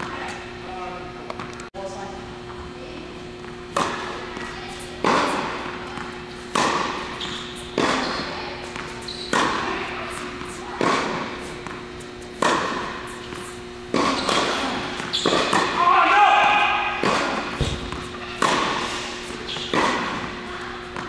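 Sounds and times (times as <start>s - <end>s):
tennis balls struck by rackets: 3.4s - 15.8s, 16.5s - 21.0s.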